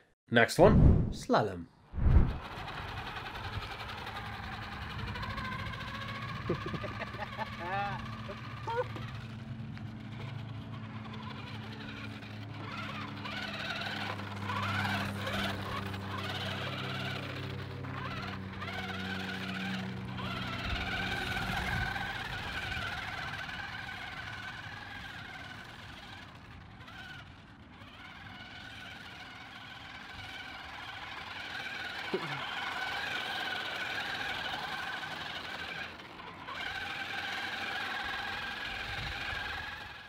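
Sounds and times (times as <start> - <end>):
rc car motor whining: 2.2 - 40.0.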